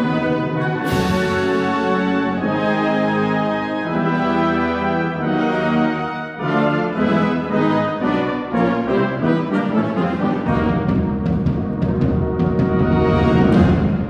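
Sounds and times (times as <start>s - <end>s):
timpani and percussion strokes: 0.0s - 5.8s, 8.5s - 14.0s
brass band playing chords: 0.0s - 14.0s.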